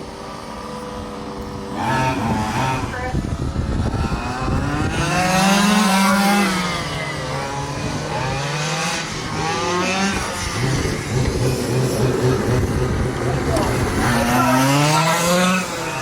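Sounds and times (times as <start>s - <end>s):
small rc truck engines revving: 0.4s - 16.0s.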